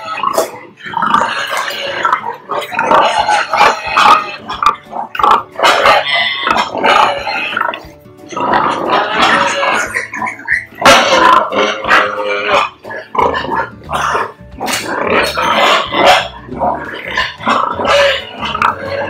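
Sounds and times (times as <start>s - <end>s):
pigs squealing and grunting: 0.0s - 19.0s.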